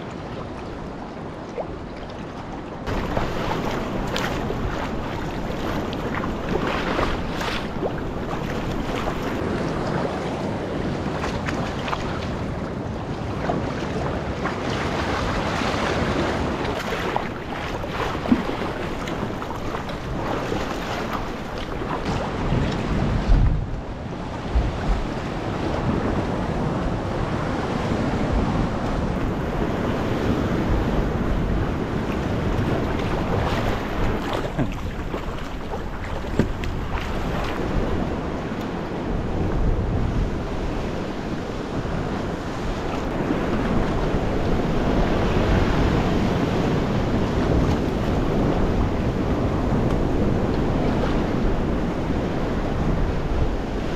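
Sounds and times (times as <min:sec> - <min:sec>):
water splashing around kayak: 0:00.0 - 0:53.9
wind buffeting microphone: 0:02.8 - 0:53.9.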